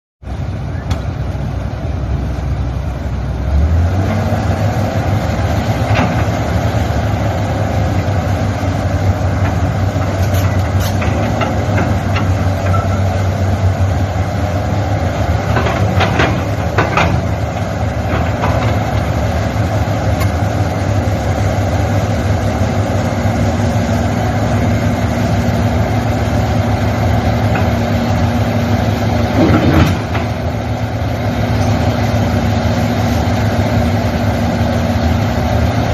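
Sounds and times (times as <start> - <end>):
diesel engine running: 0.2 - 35.9.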